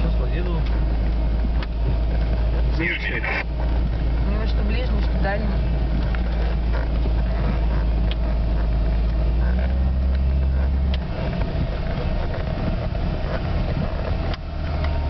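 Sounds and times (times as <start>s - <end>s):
vehicle engine rumble from inside cabin: 0.0s - 15.0s.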